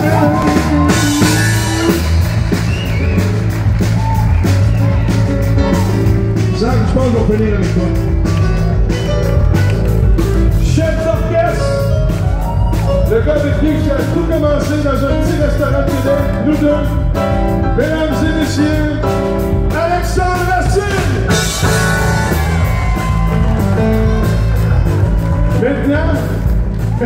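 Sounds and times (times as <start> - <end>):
drum kit steady beat: 0.0 - 27.0.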